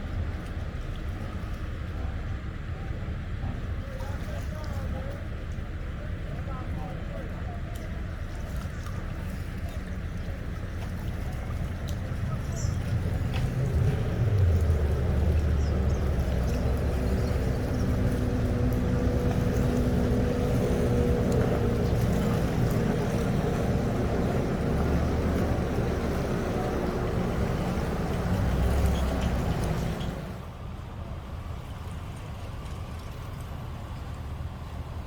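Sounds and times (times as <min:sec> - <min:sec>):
engine low rumble: 0:00.0 - 0:35.0.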